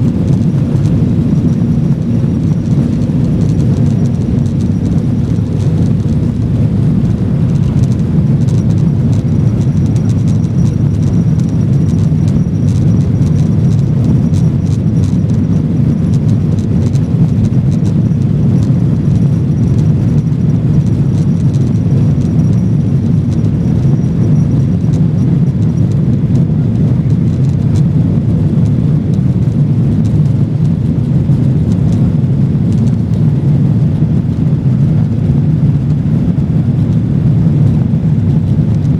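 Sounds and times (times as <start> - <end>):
faint high whine: 0.0 - 33.1
light rattles: 0.0 - 33.5
jet engine cabin rumble: 0.0 - 38.9.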